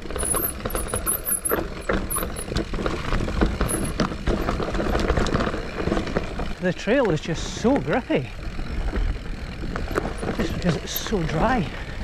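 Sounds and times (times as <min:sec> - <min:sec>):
bike knocks and rattles: 0:00.0 - 0:12.0
bike tyres rumbling on dirt trail: 0:00.0 - 0:12.0.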